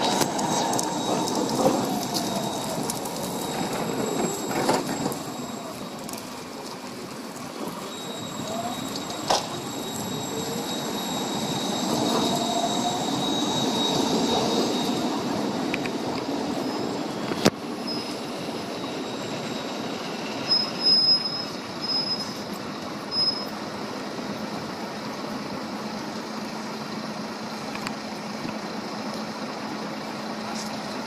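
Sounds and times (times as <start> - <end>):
wheels squealing: 0.0 - 28.4
tram electric drive whine: 0.0 - 31.0
tram rolling on rails: 0.0 - 31.0.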